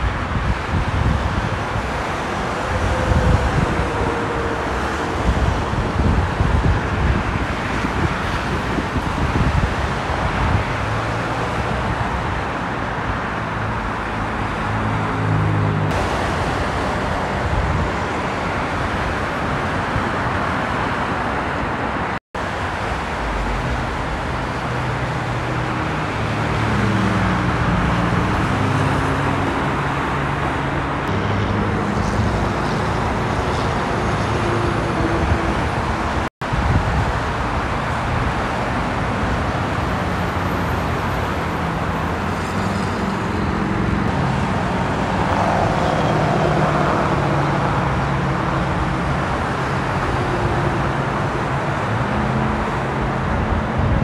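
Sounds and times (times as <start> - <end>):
freeway traffic rushing: 0.0 - 54.0
heavy vehicle engines droning: 0.0 - 54.0.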